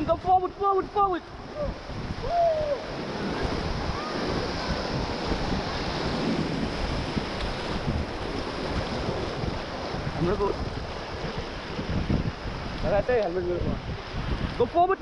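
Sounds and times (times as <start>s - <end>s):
river rapid rushing: 0.0s - 15.0s
wind buffeting microphone: 0.0s - 15.0s.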